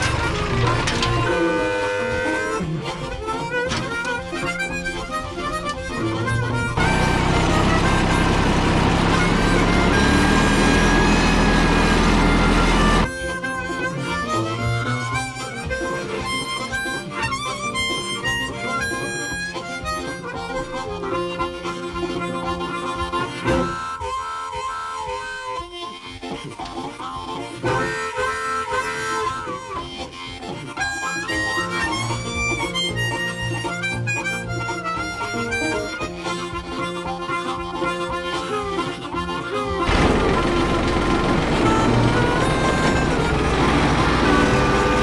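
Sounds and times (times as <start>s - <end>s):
lead melody: 0.0s - 26.2s, 27.5s - 45.0s.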